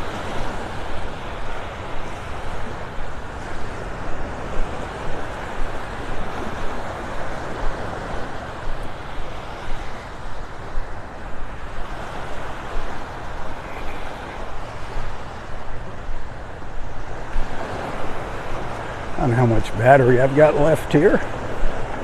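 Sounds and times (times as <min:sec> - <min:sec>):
small waves breaking on shore: 0:00.0 - 0:22.0
wind buffeting microphone: 0:00.0 - 0:22.0.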